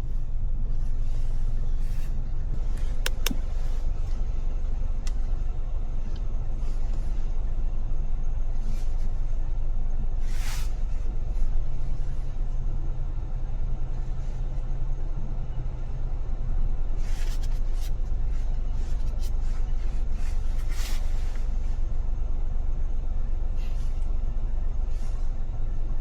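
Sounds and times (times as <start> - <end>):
car driving low rumble: 0.0 - 26.0.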